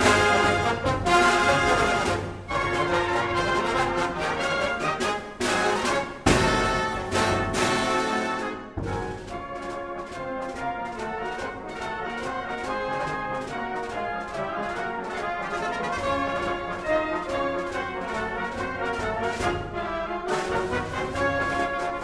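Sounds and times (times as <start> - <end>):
brass band playing circus music: 0.0 - 22.0.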